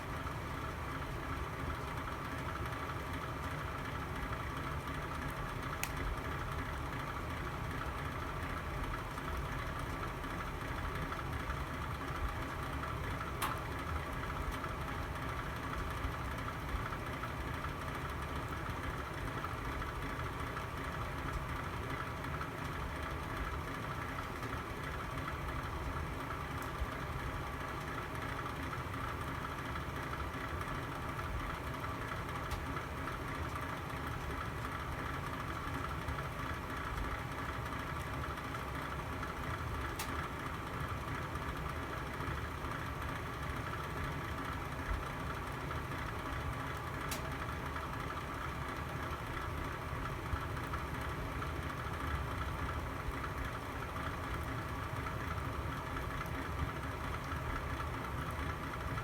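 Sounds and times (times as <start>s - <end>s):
fire burning in fireplace: 0.1s - 59.0s.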